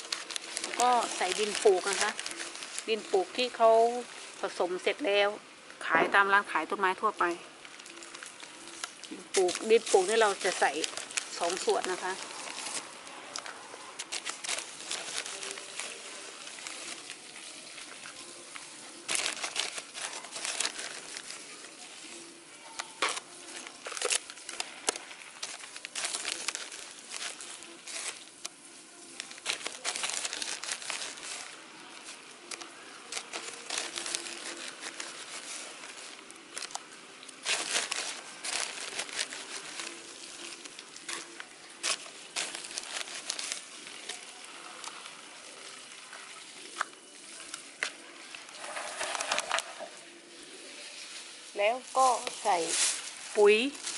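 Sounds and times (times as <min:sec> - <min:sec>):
plastic sack rustling: 0:00.0 - 0:53.9.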